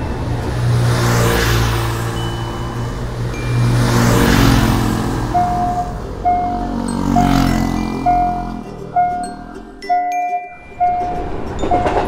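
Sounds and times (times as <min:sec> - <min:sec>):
auto-rickshaw engines passing: 0:00.0 - 0:12.0
crossing warning beeps: 0:02.2 - 0:12.0.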